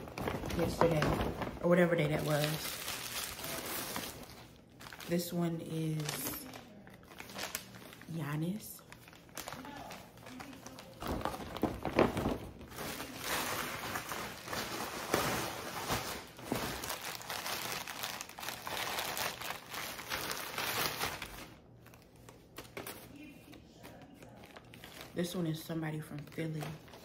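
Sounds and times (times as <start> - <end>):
plastic bags rustling: 0.0 - 27.0.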